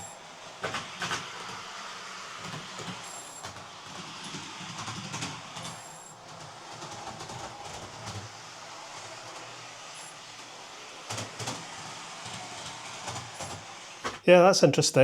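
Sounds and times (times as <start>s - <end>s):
model train motor whirring: 0.0s - 14.3s.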